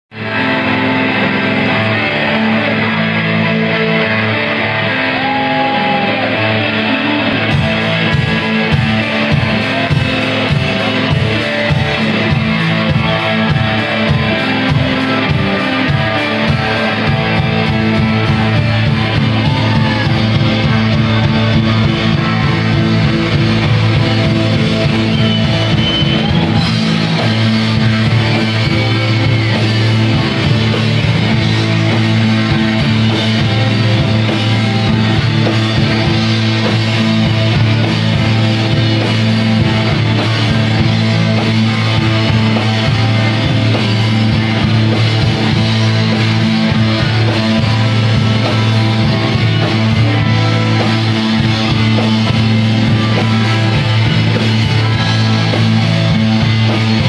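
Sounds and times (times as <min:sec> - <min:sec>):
electric guitar chords: 0:00.0 - 0:57.0
rock band playing live: 0:00.1 - 0:57.0
steady drum beat: 0:04.7 - 0:57.0.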